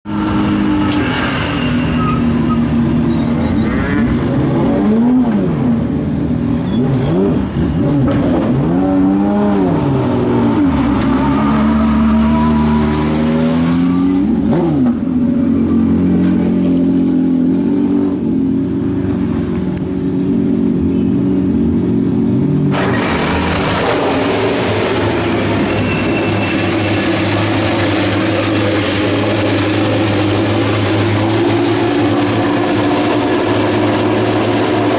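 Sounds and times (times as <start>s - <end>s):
steady engine drone: 0.0s - 34.9s
racing car engines revving: 0.1s - 34.9s.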